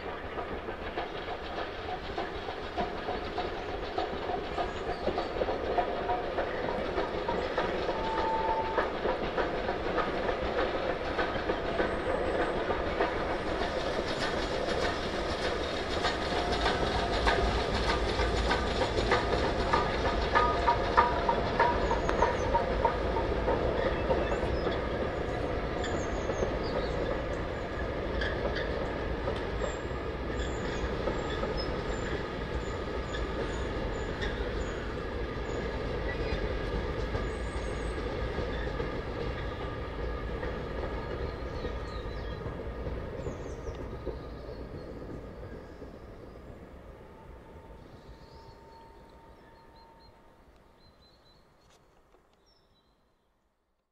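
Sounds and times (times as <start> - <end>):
wheels clicking over rail joints: 0.0 - 46.0
train wheels rolling on rails: 0.0 - 52.4.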